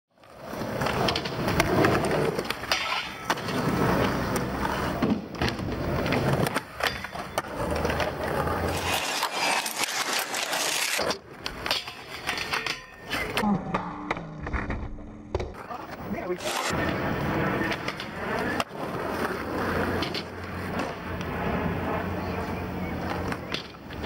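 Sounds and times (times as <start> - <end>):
skateboard wheels rolling over concrete: 0.2 - 13.4, 14.4 - 24.0.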